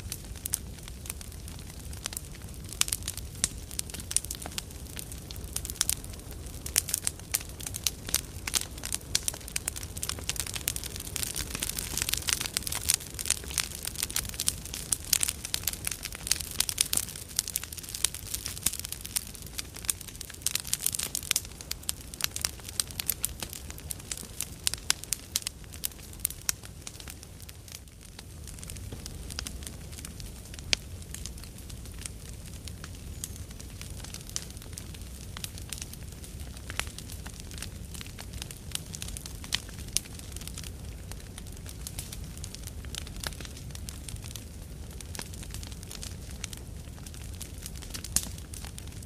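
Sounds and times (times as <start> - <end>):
campfire crackling and popping: 0.0 - 49.0
low rumble of flames: 0.0 - 49.0.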